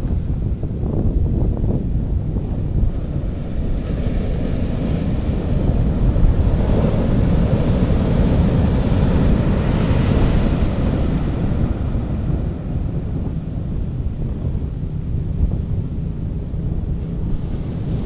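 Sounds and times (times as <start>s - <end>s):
wind buffeting microphone: 0.0s - 18.0s
sea waves washing on beach: 2.2s - 18.0s.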